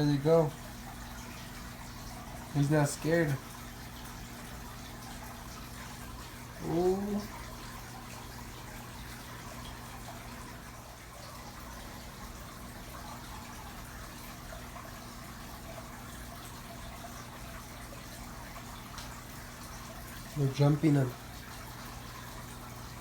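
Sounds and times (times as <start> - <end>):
pump hum: 0.0 - 23.0
water trickling into tank: 0.0 - 23.0.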